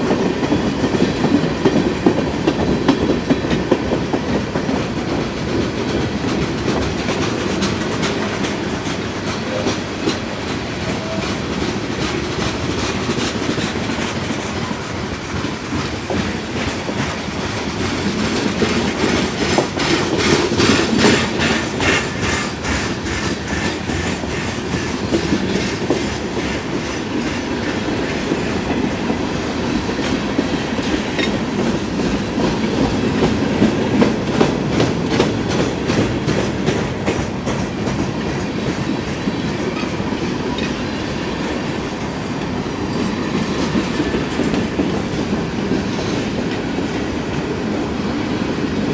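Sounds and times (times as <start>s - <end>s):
wheels clicking over rail joints: 0.0s - 48.0s
freight train rumbling past: 0.0s - 48.9s.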